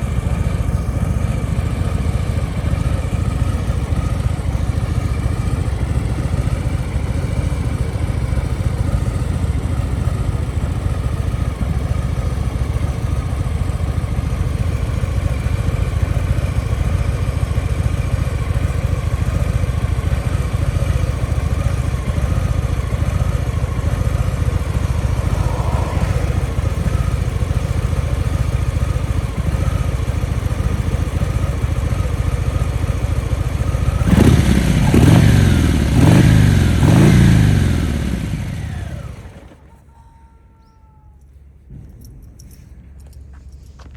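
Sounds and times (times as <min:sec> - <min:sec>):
motorcycle engine idling: 0:00.0 - 0:40.8.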